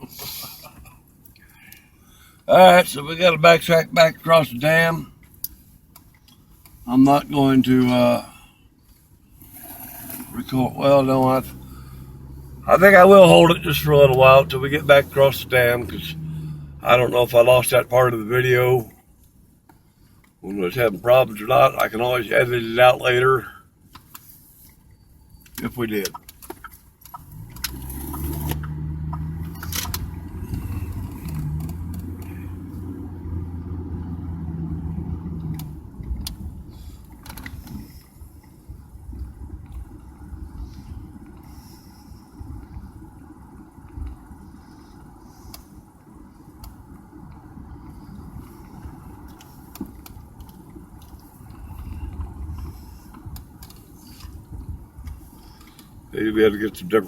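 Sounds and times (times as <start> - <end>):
car engine humming: 0.0 - 57.0.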